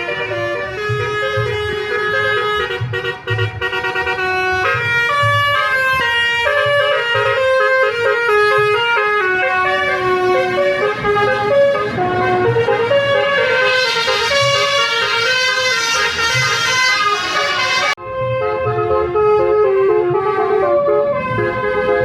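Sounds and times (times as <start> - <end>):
multi-tone bus air horn melody: 0.0 - 22.0.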